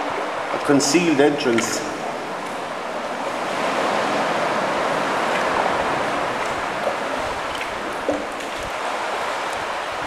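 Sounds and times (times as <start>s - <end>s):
sea water sloshing around kayak: 1.5s - 10.0s.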